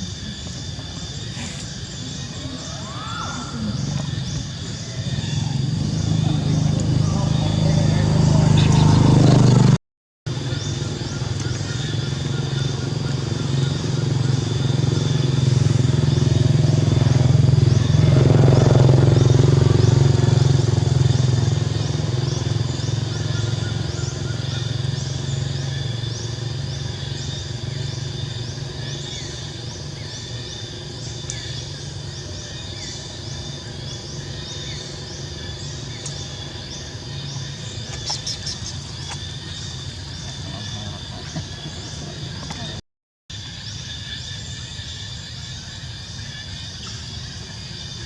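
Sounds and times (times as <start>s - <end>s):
low engine hum: 0.0s - 42.8s.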